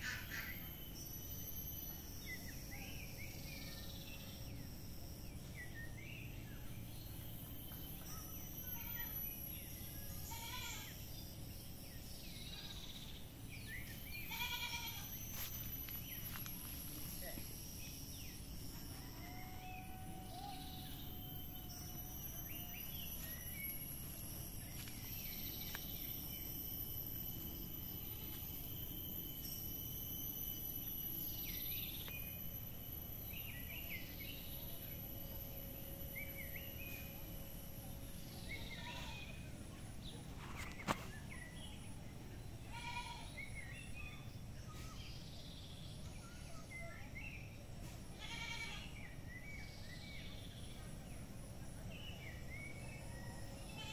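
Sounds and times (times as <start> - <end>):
bird chirps: 0.0 - 53.9
high-pitched insect drone: 0.0 - 53.9.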